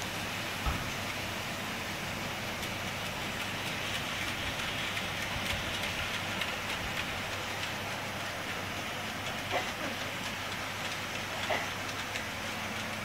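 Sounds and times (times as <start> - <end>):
model train wheels and motor hiss: 0.0 - 13.0
wheels clicking over rail: 2.3 - 13.0.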